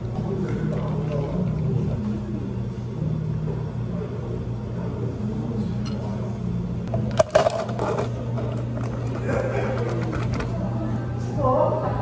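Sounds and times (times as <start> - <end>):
low hum of cafe equipment: 0.0 - 12.0.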